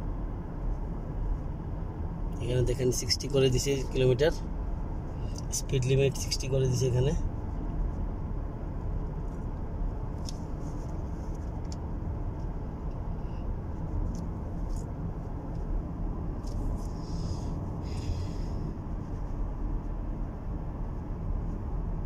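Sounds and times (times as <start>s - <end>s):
car cabin road and engine noise: 0.0s - 22.0s.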